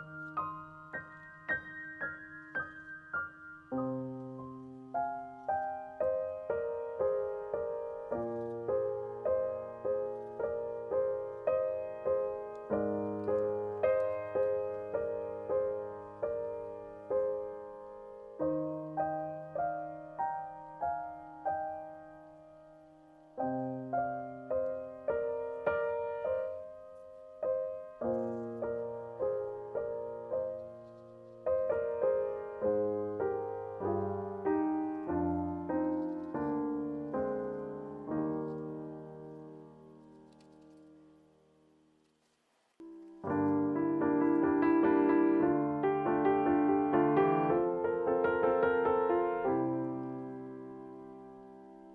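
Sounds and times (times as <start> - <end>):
piano music: 0.0 - 41.4, 42.8 - 51.9.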